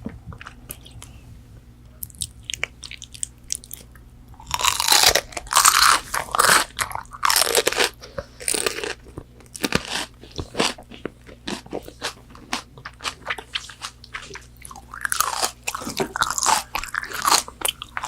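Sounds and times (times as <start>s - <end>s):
crunching bites and chewing: 2.0s - 18.0s.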